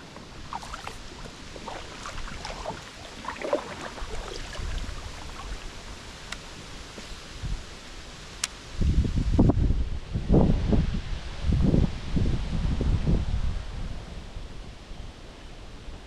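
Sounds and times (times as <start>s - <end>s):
river hiss and rumble: 0.0s - 16.0s.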